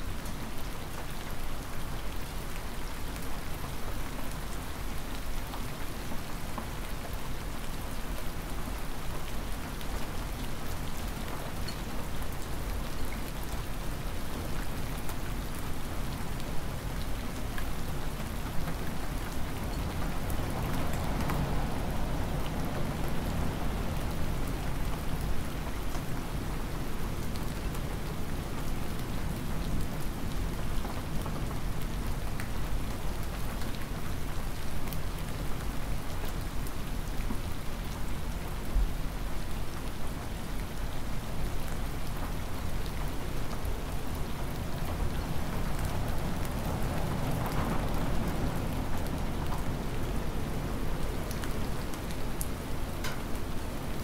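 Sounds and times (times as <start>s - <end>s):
hard rain falling: 0.0s - 54.0s
raindrops ticking on surfaces: 0.0s - 54.0s.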